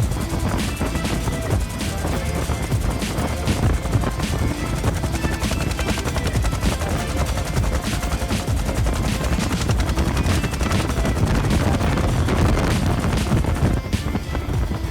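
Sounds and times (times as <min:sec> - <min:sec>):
helicopter engine noise: 0:00.0 - 0:14.9
helicopter rotor thumping: 0:00.0 - 0:14.9.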